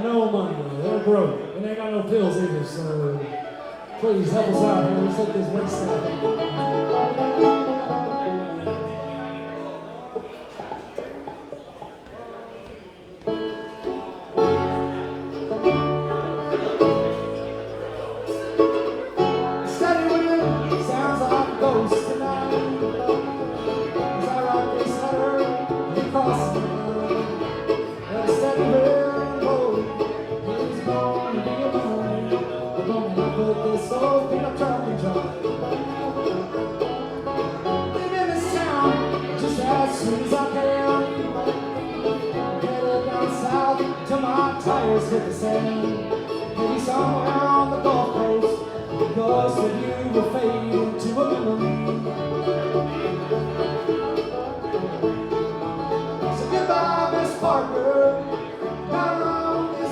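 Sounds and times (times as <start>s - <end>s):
bluegrass band playing: 0.0s - 59.9s.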